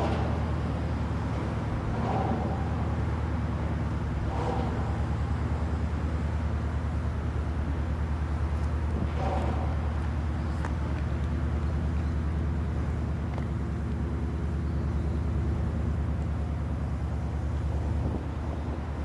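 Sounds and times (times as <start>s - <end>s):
ship engines droning: 0.0s - 19.0s.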